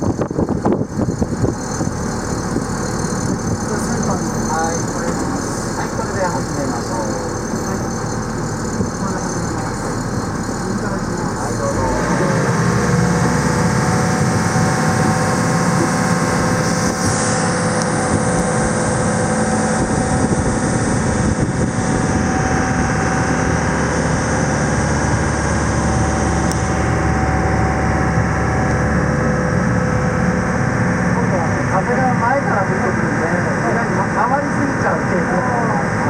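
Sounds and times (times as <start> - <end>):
motorboat engine running: 0.0 - 36.0.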